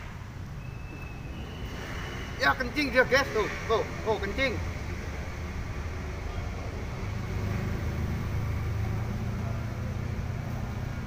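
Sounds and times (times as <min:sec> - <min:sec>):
rumble of road traffic: 0:00.0 - 0:11.0.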